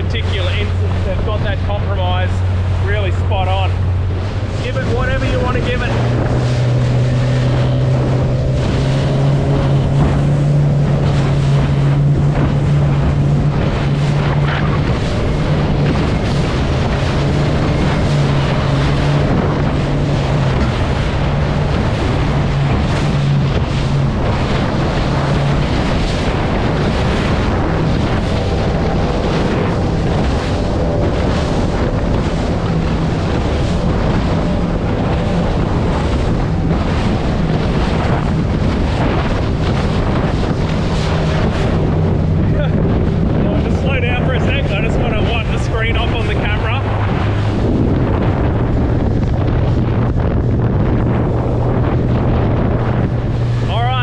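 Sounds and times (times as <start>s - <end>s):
outboard engine hum: 0.0s - 54.0s
water rushing along hull: 0.0s - 54.0s
wind buffeting microphone: 0.0s - 54.0s.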